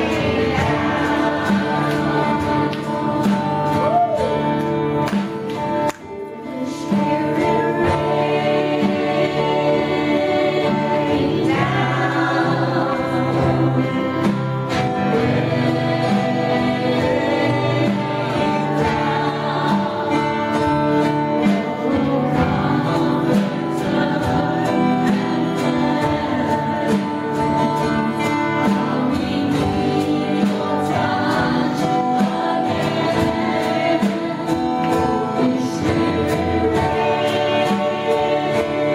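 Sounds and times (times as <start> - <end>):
congregation singing worship music: 0.0 - 38.9
instrumental accompaniment: 0.0 - 38.9.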